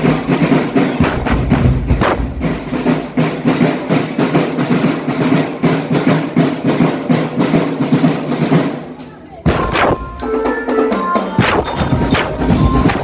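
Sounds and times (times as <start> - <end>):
marching drum band: 0.0 - 13.0.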